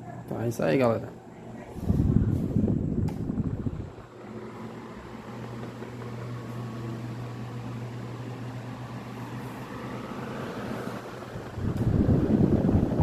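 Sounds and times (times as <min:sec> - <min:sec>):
desk fan motor humming: 0:00.0 - 0:13.0.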